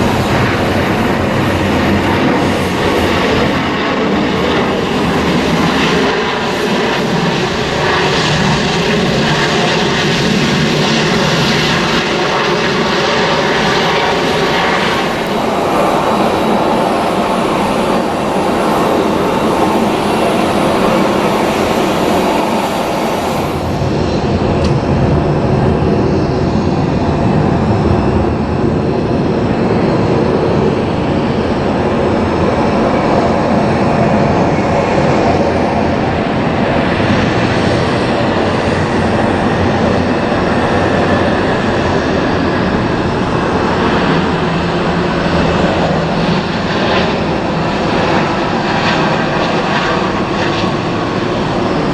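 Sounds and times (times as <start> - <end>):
jet engines running: 0.0 - 51.9.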